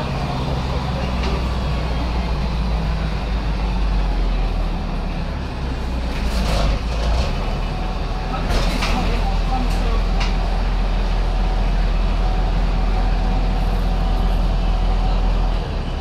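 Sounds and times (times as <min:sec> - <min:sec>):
bus engine humming: 0:00.0 - 0:16.0.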